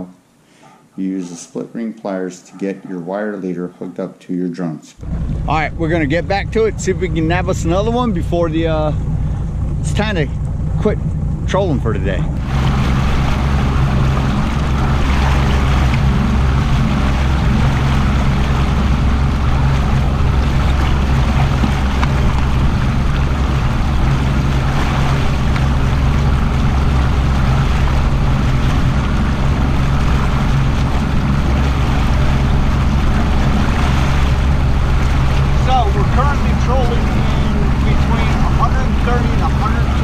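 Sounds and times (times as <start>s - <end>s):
outboard motor droning: 5.0s - 40.0s
water noise around hull: 5.0s - 40.0s.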